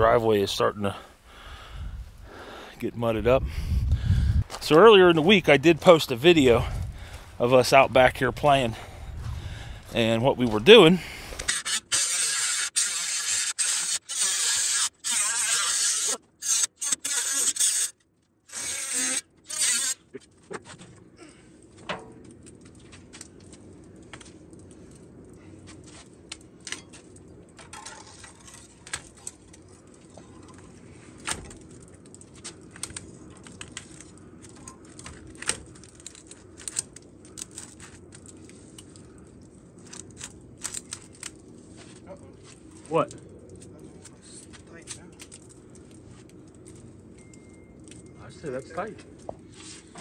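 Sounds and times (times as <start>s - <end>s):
steady low hum: 0.0s - 12.6s, 18.4s - 50.0s.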